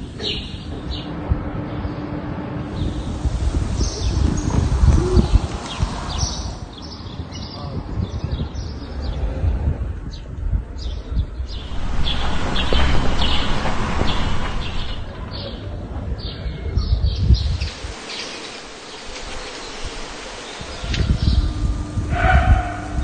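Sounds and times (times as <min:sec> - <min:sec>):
low rumble: 0:00.0 - 0:06.8, 0:09.1 - 0:23.0
small birds chirping: 0:02.8 - 0:09.4, 0:10.1 - 0:21.9.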